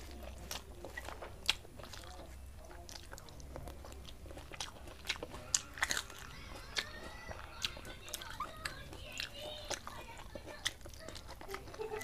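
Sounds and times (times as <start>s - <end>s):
close-up chewing: 0.0s - 12.0s.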